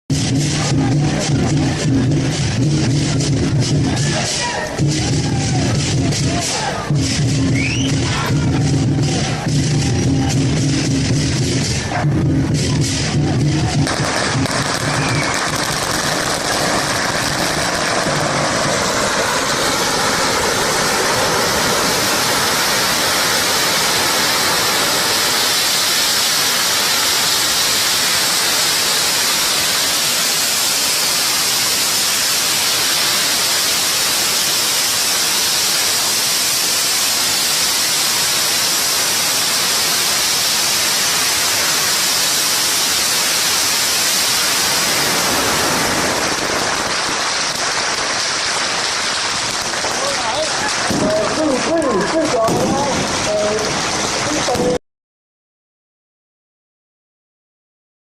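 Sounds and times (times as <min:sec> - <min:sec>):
firecrackers crackling: 0:00.1 - 0:54.8.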